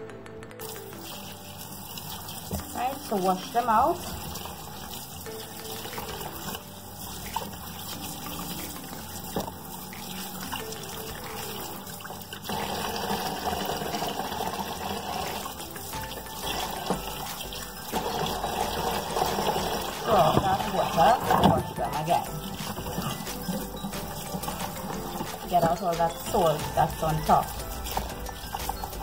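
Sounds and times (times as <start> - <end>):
tap water running into a bowl: 0.6 - 29.0.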